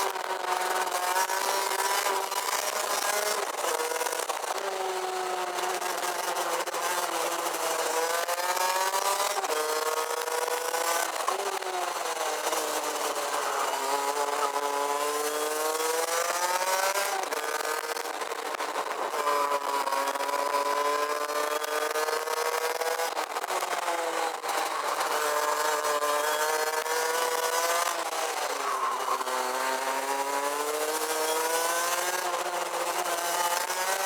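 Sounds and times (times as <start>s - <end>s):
kart engine revving: 0.0s - 34.0s.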